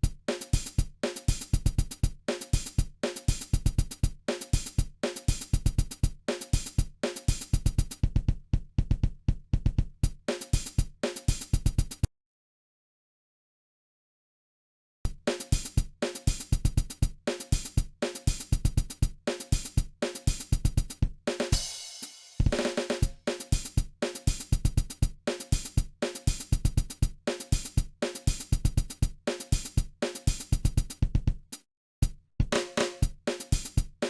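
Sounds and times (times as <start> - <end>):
drum-kit beat: 0.0 - 12.1, 15.1 - 34.0.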